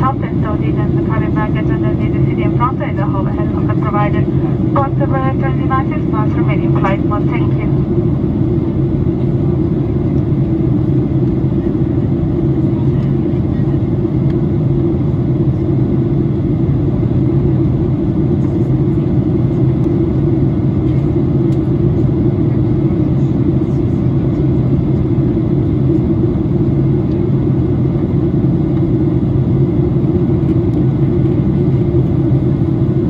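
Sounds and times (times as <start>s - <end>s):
jet engine low rumble: 0.0s - 33.0s.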